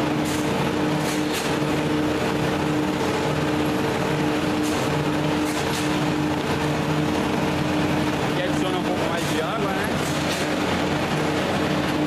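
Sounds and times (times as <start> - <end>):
brick making machinery droning: 0.0 - 12.0.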